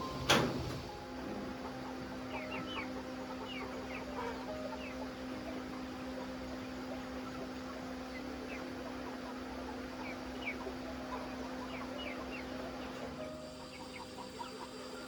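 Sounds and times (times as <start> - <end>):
chickens clucking and peeping: 0.0 - 15.0
steady low hum: 0.0 - 15.0.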